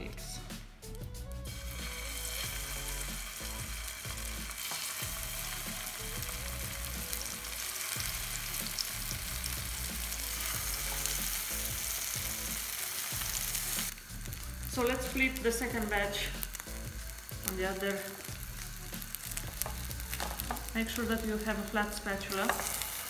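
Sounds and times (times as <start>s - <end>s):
pancakes sizzling in oil: 1.5s - 23.0s.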